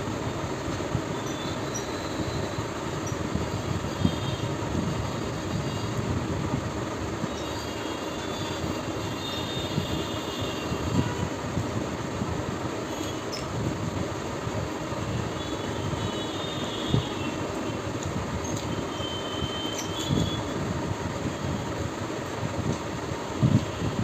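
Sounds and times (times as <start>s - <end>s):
fan-like background hum: 0.0s - 24.0s.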